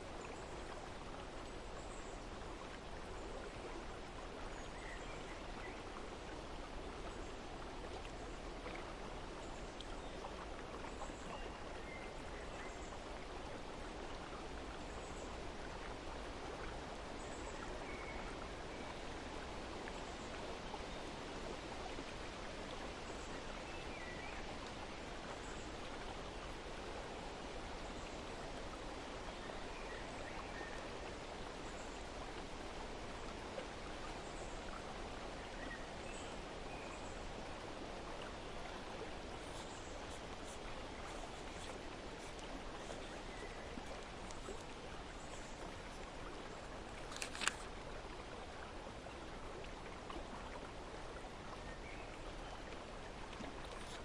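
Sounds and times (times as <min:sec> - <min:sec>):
water flowing: 0:00.0 - 0:54.0.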